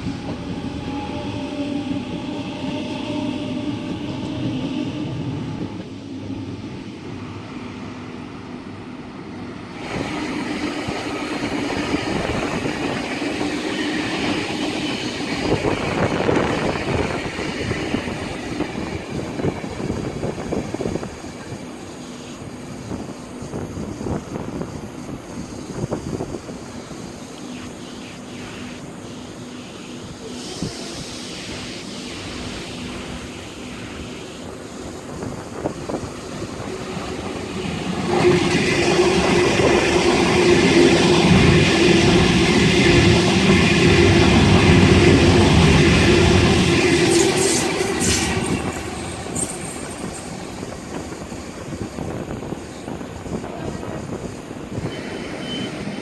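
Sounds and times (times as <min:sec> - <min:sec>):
train wheels rumbling on rails: 0:00.0 - 0:27.9, 0:28.8 - 0:56.0.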